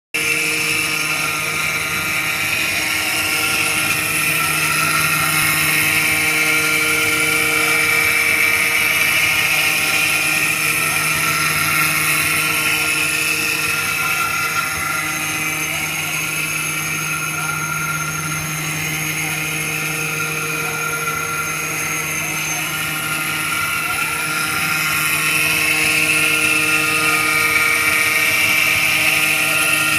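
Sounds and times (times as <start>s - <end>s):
bit grinding stone: 0.2s - 29.9s
router spindle humming: 0.2s - 29.9s.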